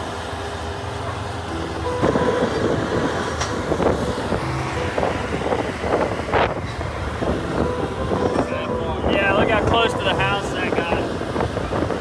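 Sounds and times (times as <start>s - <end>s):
utility vehicle engine and tyres: 0.0s - 12.0s.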